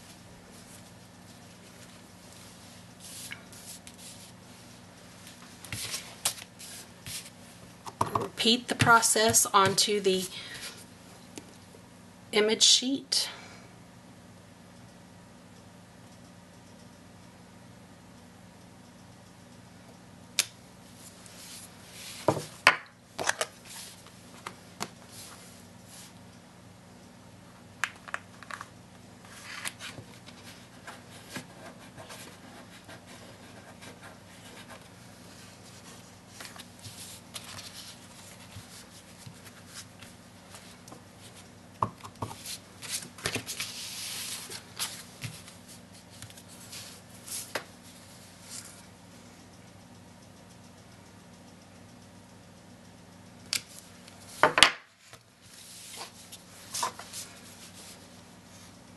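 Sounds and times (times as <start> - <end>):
low steady hum: 0.0 - 58.9.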